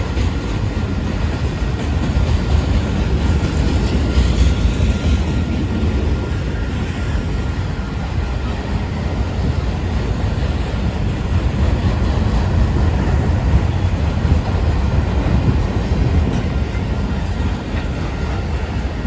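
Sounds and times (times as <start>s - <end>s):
freight train wheels on rail: 0.0s - 19.0s.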